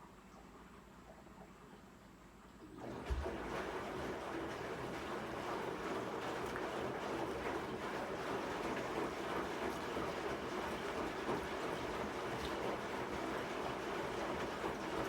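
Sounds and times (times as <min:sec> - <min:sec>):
washing machine churning: 0:02.7 - 0:15.0.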